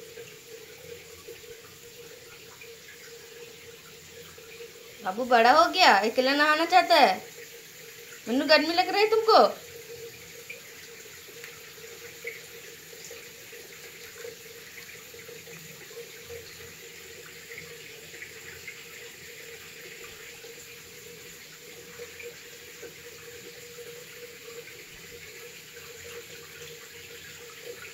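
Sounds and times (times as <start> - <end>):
water splashes and drips: 0.0 - 27.9.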